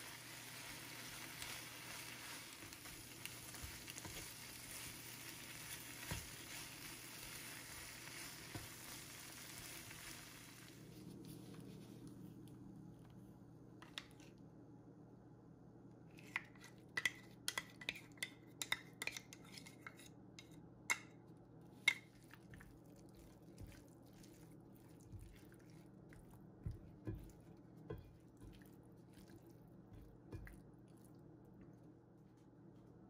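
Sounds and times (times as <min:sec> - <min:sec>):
spatula stirring pasta: 0:00.0 - 0:11.8, 0:16.2 - 0:21.1, 0:21.7 - 0:31.7
faint steady hum: 0:00.0 - 0:33.0.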